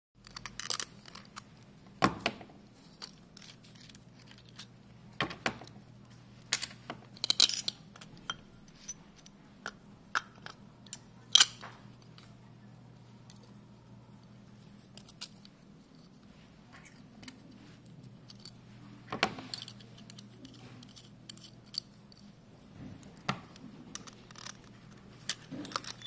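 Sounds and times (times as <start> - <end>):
faint steady hum: 0.2 - 26.0.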